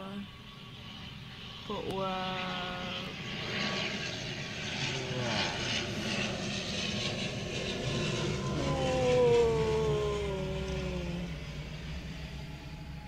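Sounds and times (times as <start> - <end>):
propeller plane passing overhead: 0.0 - 13.0.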